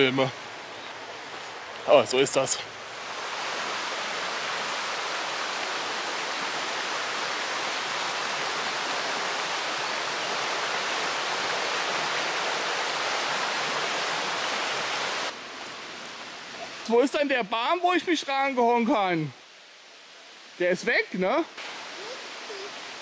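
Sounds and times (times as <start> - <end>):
brook running water: 0.0 - 23.0.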